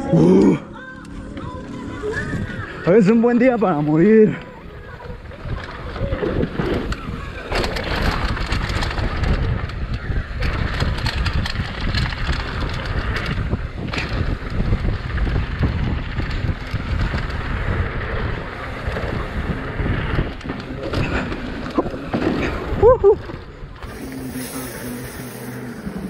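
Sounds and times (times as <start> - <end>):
wind buffeting microphone: 1.1 - 26.0
bike tyres on dirt trail: 2.0 - 26.0.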